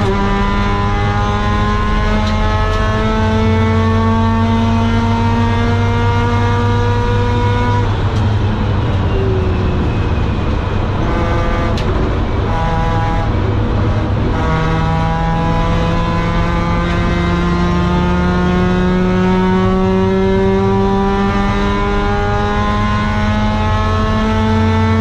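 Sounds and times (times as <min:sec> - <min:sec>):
rotary car engine revving: 0:00.0 - 0:25.0.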